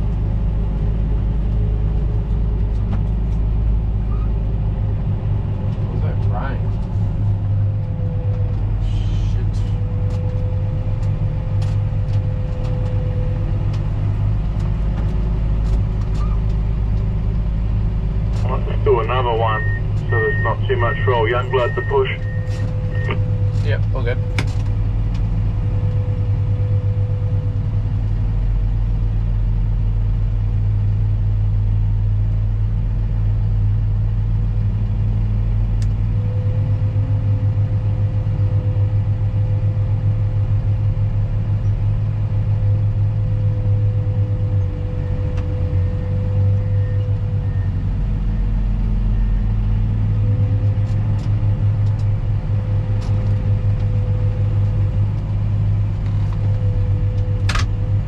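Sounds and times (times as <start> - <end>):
diesel machine rumbling: 0.0 - 58.0.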